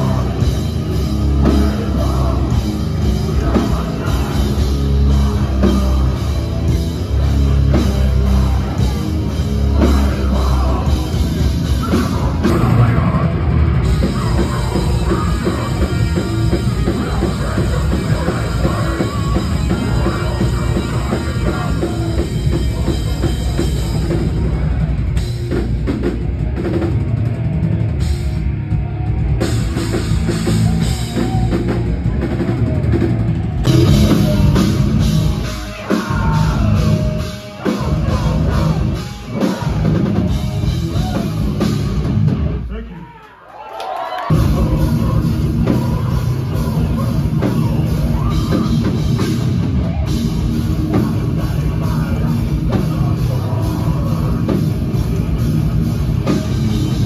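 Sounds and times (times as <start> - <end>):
drum kit pounding: 0.0 - 42.7, 44.3 - 57.0
live metal band playing: 0.0 - 42.9, 44.3 - 57.0.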